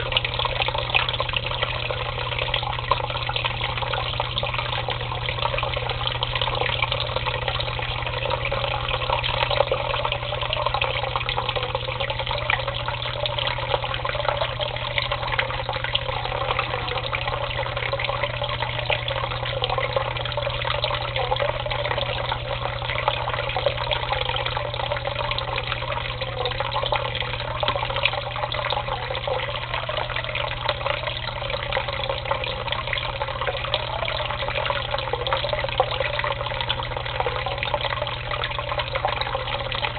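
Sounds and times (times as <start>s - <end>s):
steady low hum: 0.0s - 39.9s
water pouring into tank: 0.0s - 39.9s.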